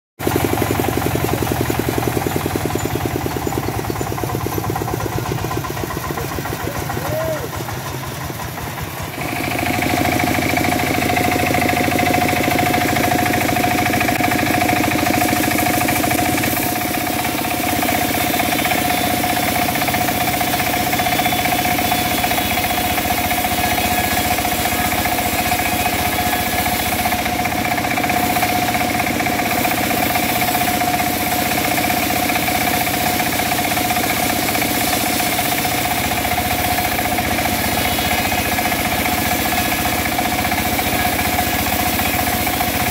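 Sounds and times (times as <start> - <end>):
engine-driven wood saw whining: 0.2 - 42.9.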